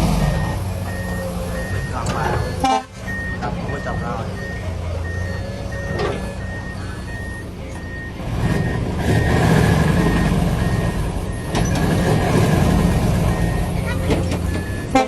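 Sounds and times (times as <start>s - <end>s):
diesel truck engine: 0.0s - 15.0s
reversing alarm beeping: 0.2s - 15.0s.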